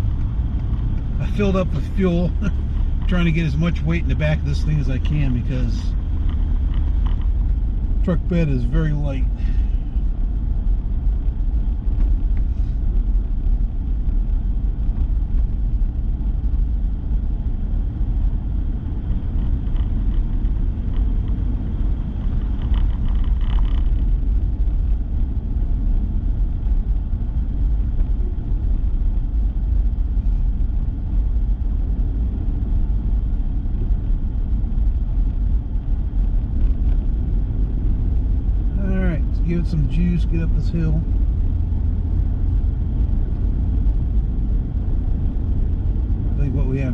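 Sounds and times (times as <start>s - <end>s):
truck engine and tyres rumbling: 0.0s - 46.9s.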